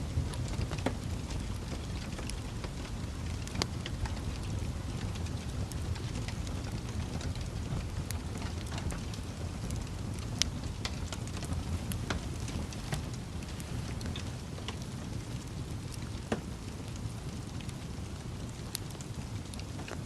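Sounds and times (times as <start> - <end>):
logs crackling and popping: 0.0 - 20.0
rumble of flames: 0.0 - 20.0.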